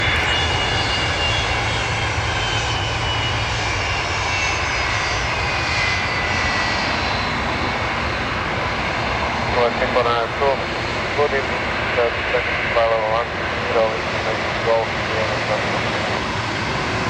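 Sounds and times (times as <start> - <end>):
jet engines roaring and whining: 0.0 - 17.0.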